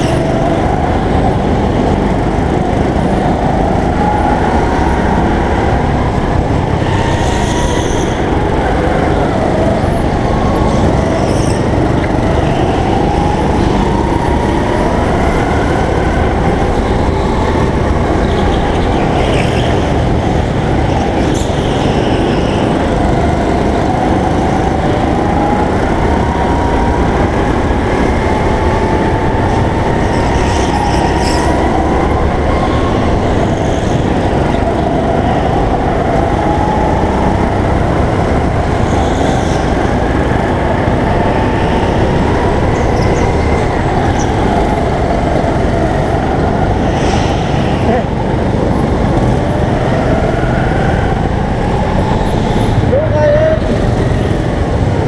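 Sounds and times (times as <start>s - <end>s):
go-kart motor running hard: 0.0s - 55.0s.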